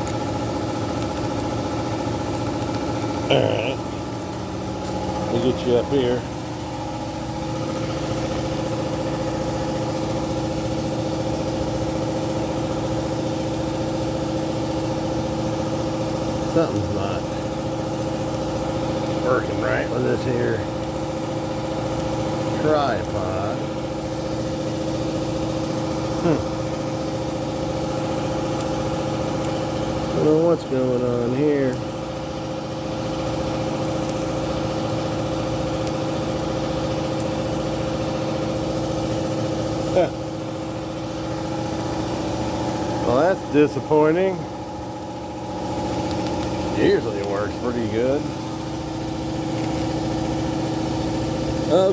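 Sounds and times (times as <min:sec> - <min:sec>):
motor droning steadily: 0:00.0 - 0:51.9.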